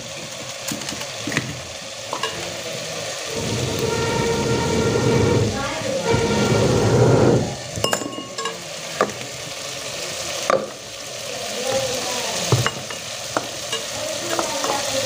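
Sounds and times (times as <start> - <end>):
gravy sizzling in a pot: 0.0 - 15.0.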